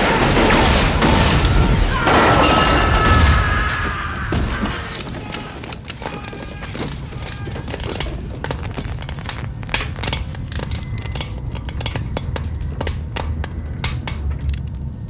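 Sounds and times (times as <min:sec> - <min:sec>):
large fire crackling and popping: 0:00.0 - 0:15.0.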